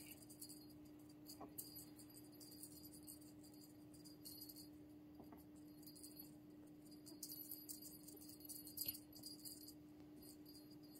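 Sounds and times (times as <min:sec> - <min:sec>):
small bell jingling: 0:00.0 - 0:10.9
steady low hum: 0:00.0 - 0:10.9.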